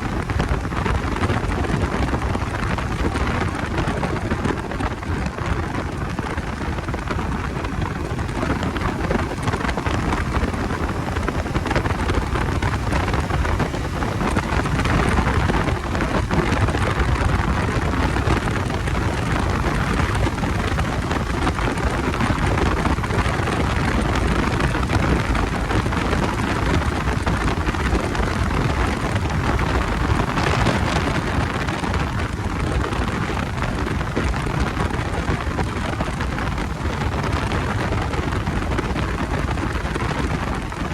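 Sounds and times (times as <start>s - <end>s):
motorcycle engine and road noise: 0.0s - 40.9s
wind buffeting microphone: 0.0s - 40.9s.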